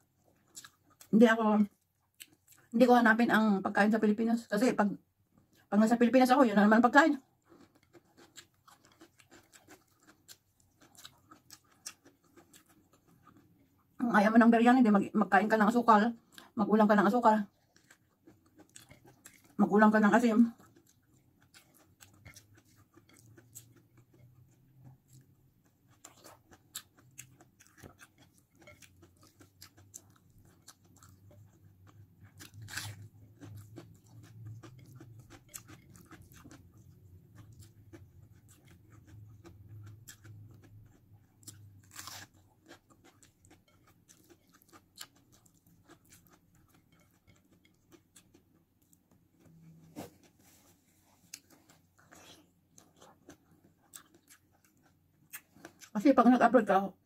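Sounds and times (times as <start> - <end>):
chewing with mouth clicks: 0.0 - 1.1, 1.7 - 2.8, 7.2 - 14.0, 16.2 - 16.6, 17.5 - 56.0.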